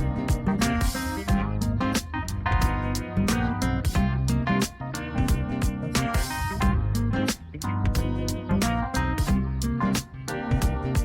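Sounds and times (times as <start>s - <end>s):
guitar music with steady beat: 0.0s - 11.0s.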